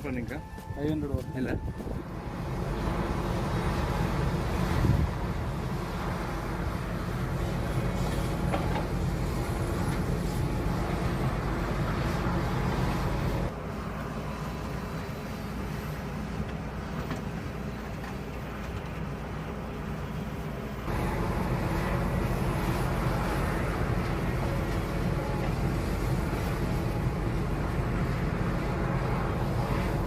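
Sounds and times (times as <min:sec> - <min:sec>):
excavator diesel engine rumbling: 0:00.0 - 0:30.0.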